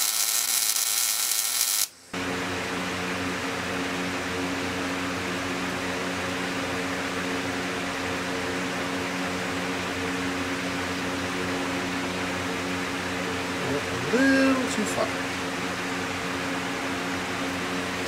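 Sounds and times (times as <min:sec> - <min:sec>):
electric fan whirring: 0:00.0 - 0:18.0.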